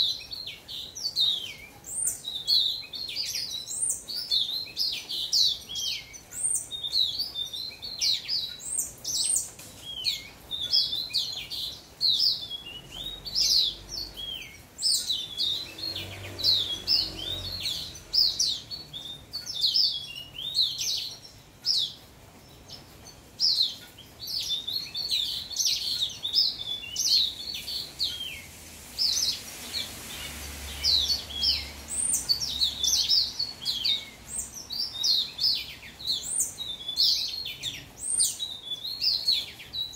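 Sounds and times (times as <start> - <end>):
finch singing warbled chirps: 0.0 - 39.9.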